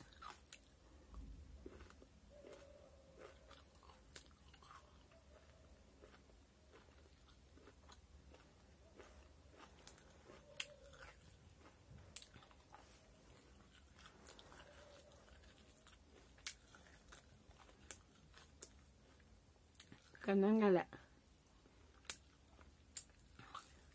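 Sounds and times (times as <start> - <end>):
person chewing crispy food: 0.0 - 20.3, 21.2 - 23.9.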